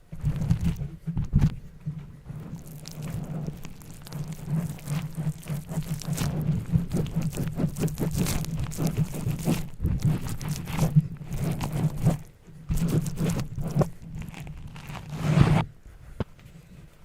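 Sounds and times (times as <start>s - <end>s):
irregular crunching and crackling: 0.0s - 15.7s.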